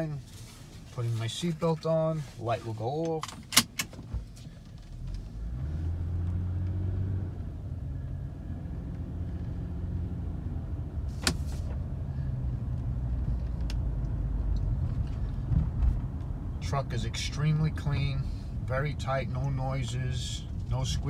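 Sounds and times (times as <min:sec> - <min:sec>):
car engine in cabin: 0:00.0 - 0:21.0
road noise: 0:00.0 - 0:21.0.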